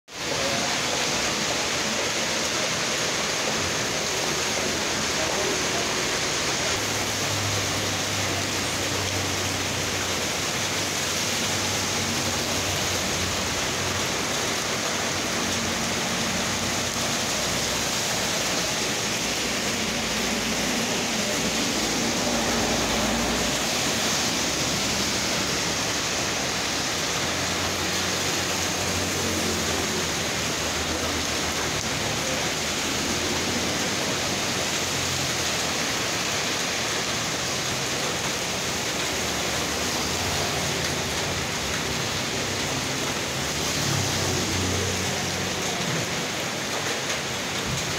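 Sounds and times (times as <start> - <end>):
heavy rain pouring: 0.1 - 47.9
vehicles driving on wet road: 0.1 - 47.9.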